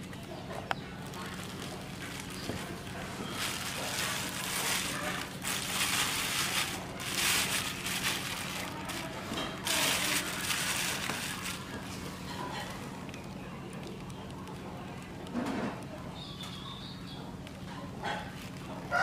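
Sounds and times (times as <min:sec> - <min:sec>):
plastic bag crinkling: 0:00.9 - 0:15.5, 0:18.1 - 0:19.0.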